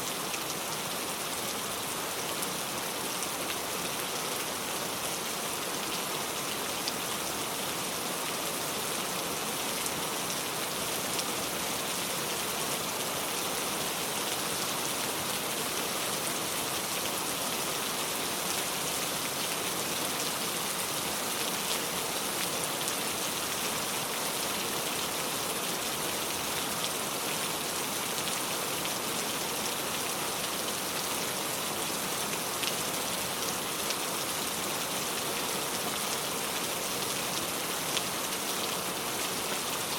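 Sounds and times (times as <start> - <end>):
rain falling on a car: 0.1 - 39.9.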